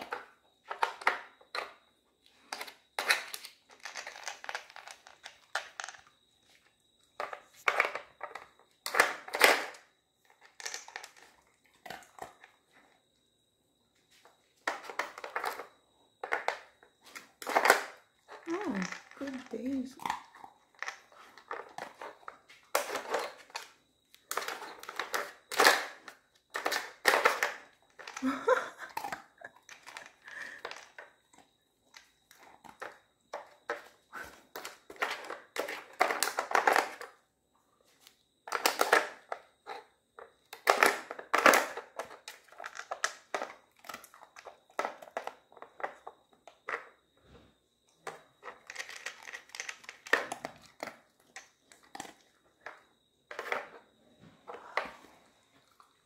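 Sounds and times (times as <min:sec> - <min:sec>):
plastic puzzle clattering and scraping: 0:00.0 - 0:06.1, 0:07.2 - 0:12.5, 0:14.6 - 0:31.2, 0:31.9 - 0:37.2, 0:38.0 - 0:47.0, 0:48.0 - 0:55.1.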